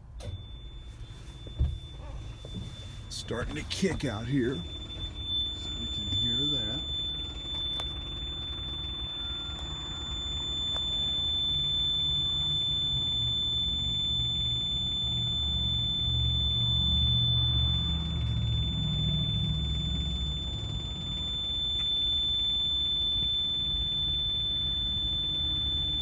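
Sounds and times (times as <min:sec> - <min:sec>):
high-pitched tone: 0:00.0 - 0:26.0
refrigeration unit rumble: 0:00.0 - 0:26.0.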